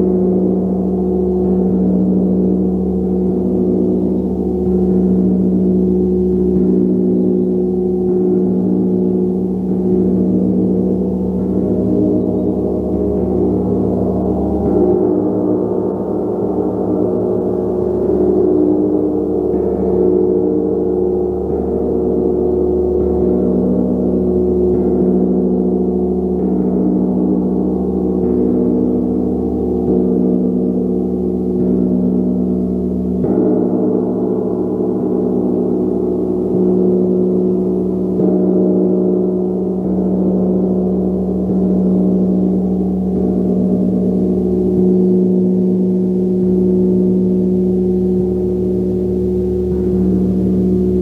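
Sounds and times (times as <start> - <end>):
gong ringing: 0.0 - 51.0.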